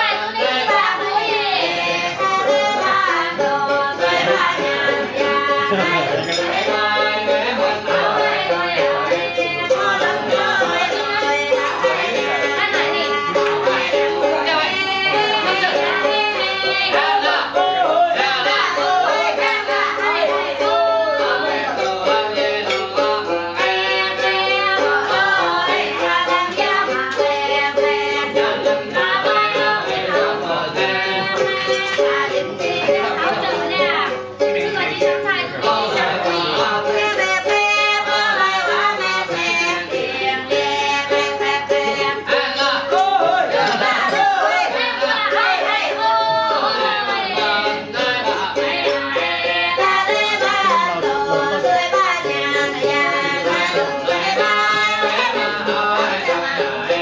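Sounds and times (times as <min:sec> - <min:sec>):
people singing: 0:00.0 - 0:57.0
plucked lute: 0:00.0 - 0:57.0.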